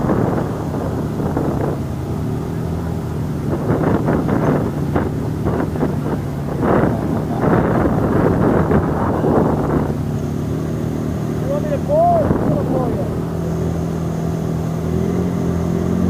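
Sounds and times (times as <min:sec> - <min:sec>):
quad bike engine idling: 0:00.0 - 0:16.0
wind buffeting microphone: 0:00.0 - 0:16.0.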